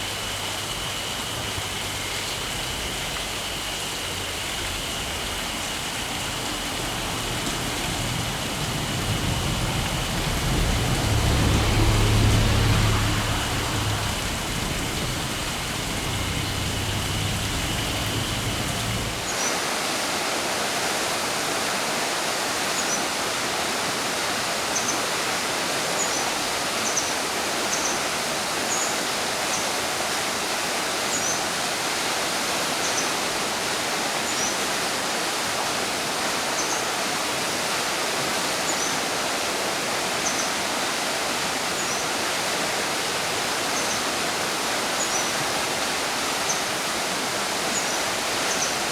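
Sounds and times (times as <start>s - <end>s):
stream rushing: 0.0s - 48.9s.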